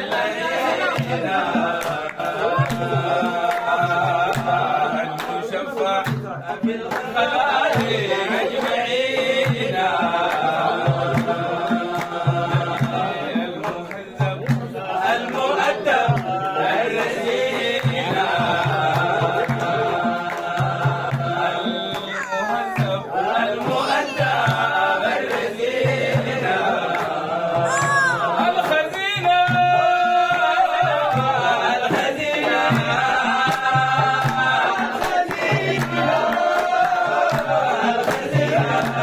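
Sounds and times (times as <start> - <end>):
drum beating steady rhythm: 0.0 - 39.0
voices chanting a religious song: 0.0 - 39.0.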